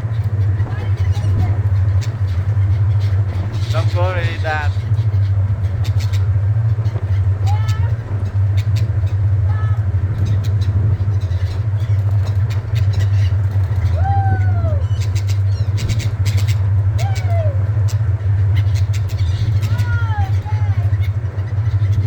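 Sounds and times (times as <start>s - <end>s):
gulls calling: 0.0s - 22.0s
steady low drone: 0.0s - 22.0s.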